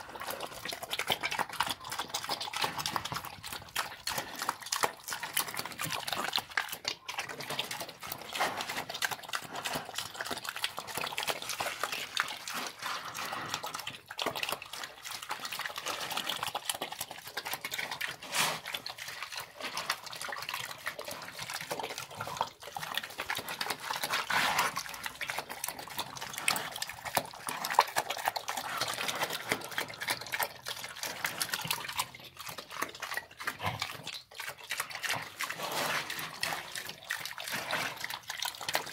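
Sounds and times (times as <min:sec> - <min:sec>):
pig chomping and slurping: 0:00.0 - 0:38.9.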